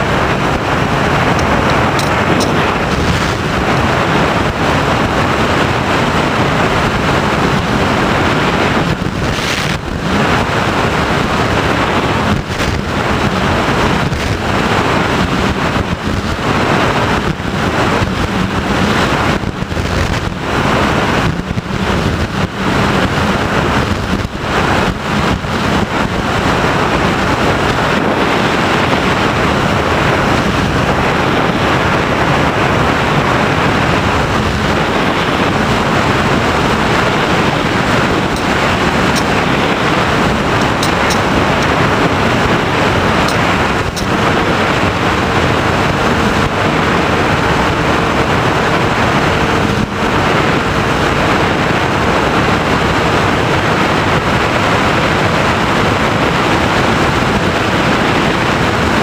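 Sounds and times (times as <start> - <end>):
airflow rushing over microphone: 0.0 - 59.0
plane motor and propeller: 0.0 - 59.0.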